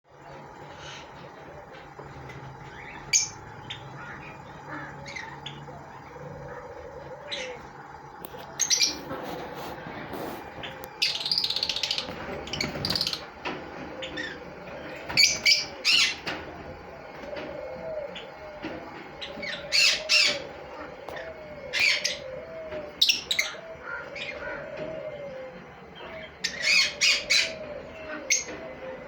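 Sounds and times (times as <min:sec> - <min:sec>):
lovebirds chirping and squawking: 0:00.2 - 0:29.0.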